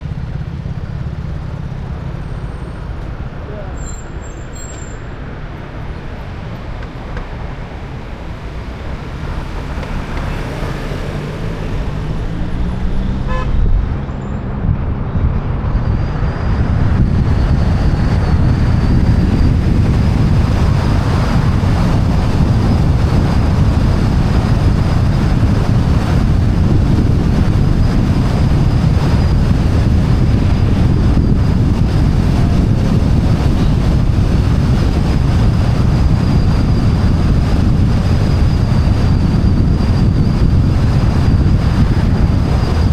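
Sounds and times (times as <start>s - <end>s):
vehicle engine accelerating: 0.0s - 42.9s
wind rumble and road noise: 0.0s - 42.9s.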